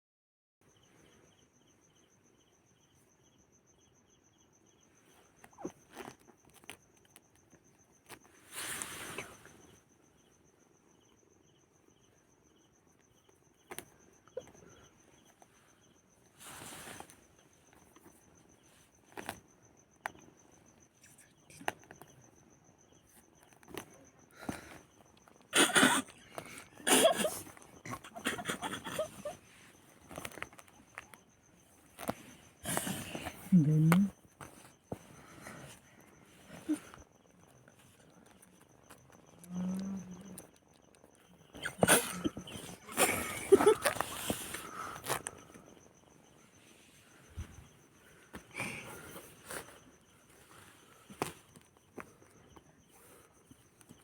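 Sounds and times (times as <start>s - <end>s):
insects trilling: 0.6s - 54.0s.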